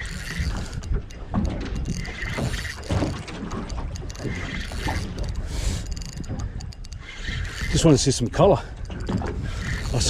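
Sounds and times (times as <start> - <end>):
fishing reel cranking: 0.0 - 10.0
water and wind noise: 0.0 - 10.0.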